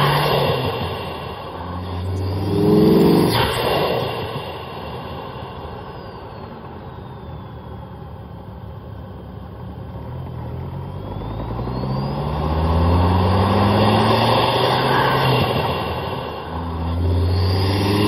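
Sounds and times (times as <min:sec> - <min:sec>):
car engine revving: 0:00.0 - 0:18.0
turbo high whistle: 0:00.0 - 0:18.0.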